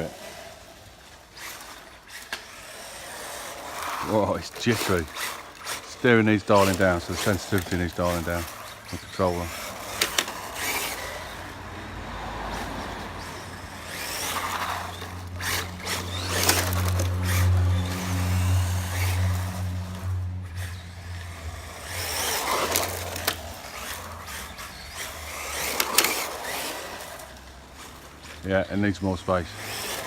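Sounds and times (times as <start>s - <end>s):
rc car motor whine: 0.0s - 30.0s
tyre noise: 0.0s - 30.0s.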